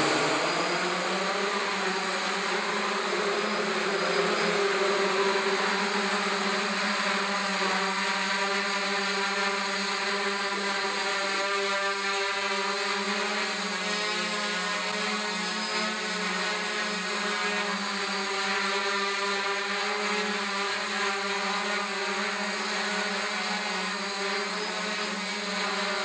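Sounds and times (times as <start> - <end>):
drone propeller buzz: 0.0 - 26.0.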